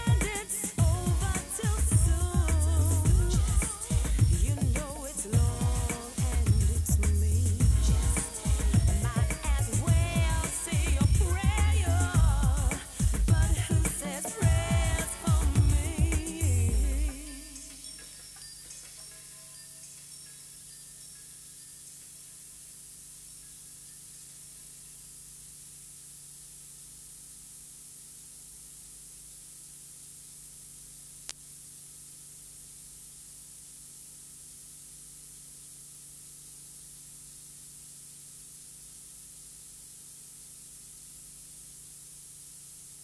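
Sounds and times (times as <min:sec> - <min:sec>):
recording hiss: 0:00.0 - 0:43.0.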